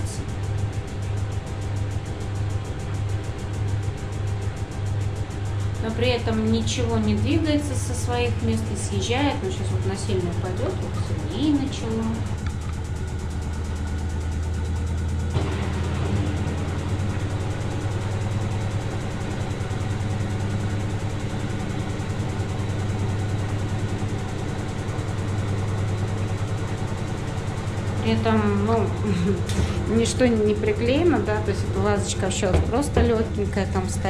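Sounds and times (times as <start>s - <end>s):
washer-dryer spinning: 0.0s - 34.0s.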